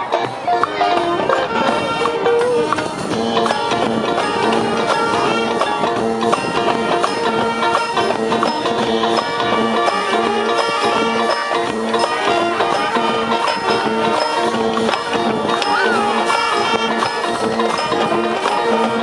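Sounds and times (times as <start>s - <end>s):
percussion strokes: 0.0s - 19.0s
winds and brass sustained notes: 0.4s - 19.0s.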